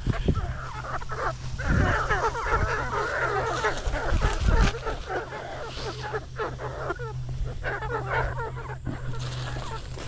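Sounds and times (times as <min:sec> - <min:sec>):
chickens clucking and squawking: 0:00.0 - 0:10.0.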